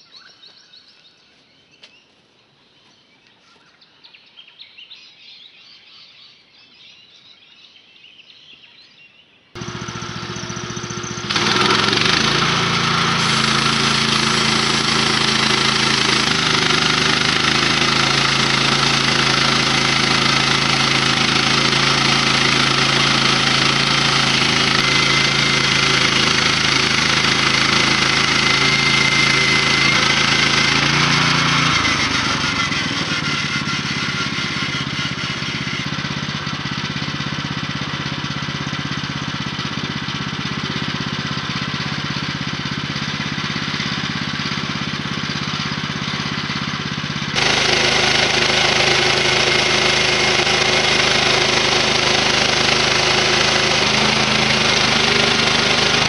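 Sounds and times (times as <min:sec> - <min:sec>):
sawmill engine cutting log: 0:09.6 - 0:56.0.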